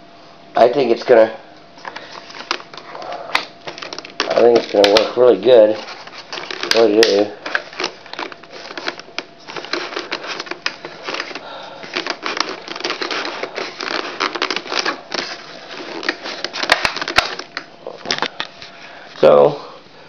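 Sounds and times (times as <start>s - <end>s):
plastic crinkling: 1.8s - 18.8s.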